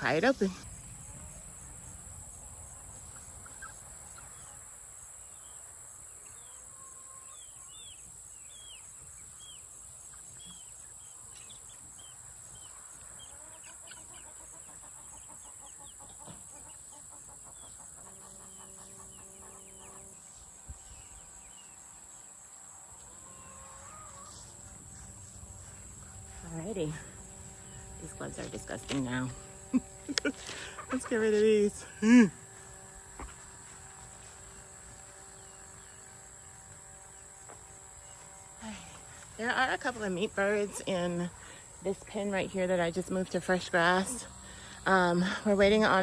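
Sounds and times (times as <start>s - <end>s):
chickens clucking and peeping: 0.0s - 46.0s
high insect drone: 0.0s - 46.0s.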